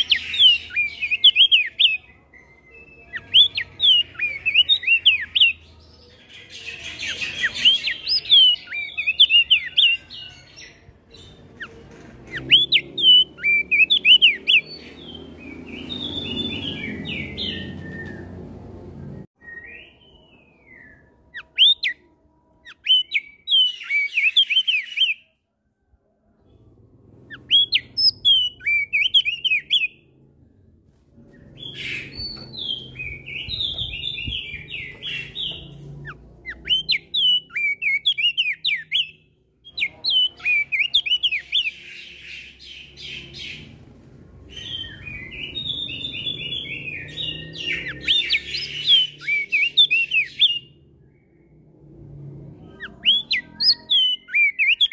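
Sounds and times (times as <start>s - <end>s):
bird singing chirping notes: 0.0s - 25.4s, 26.4s - 30.2s, 31.3s - 43.8s, 44.5s - 51.7s, 52.6s - 54.9s.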